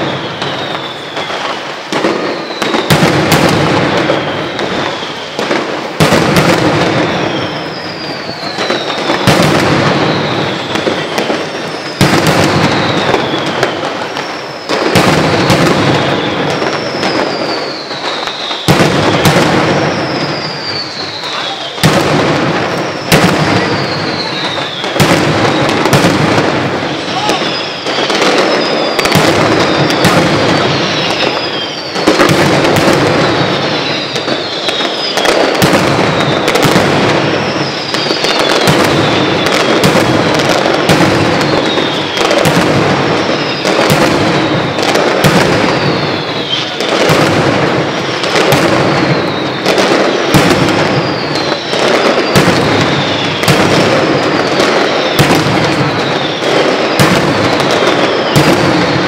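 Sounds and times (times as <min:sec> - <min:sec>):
firecracker bangs: 0:00.0 - 0:59.0
shrill firework whistles: 0:00.0 - 0:59.0.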